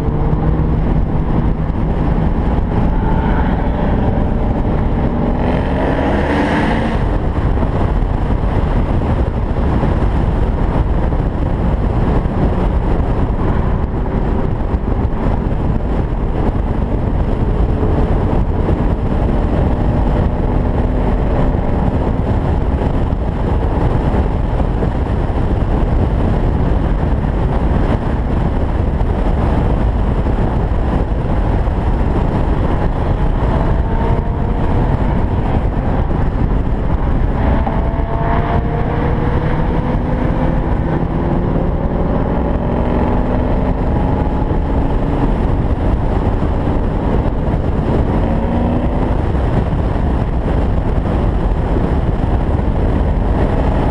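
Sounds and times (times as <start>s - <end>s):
wind rush and road noise: 0.0s - 53.9s.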